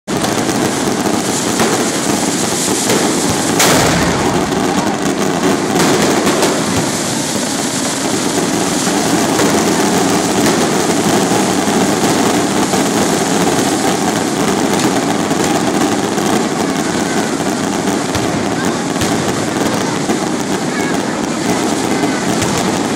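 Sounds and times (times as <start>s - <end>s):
firework bangs: 0.1s - 22.9s
fireworks crackling and hissing: 0.1s - 22.9s.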